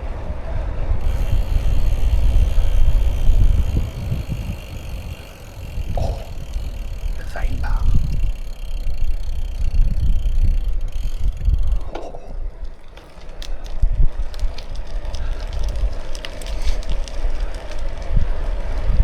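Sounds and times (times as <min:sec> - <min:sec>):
bicycle tyres hissing: 0:00.0 - 0:19.0
wheel ticks and crackles: 0:00.0 - 0:19.0
wind buffeting microphone: 0:00.0 - 0:19.0.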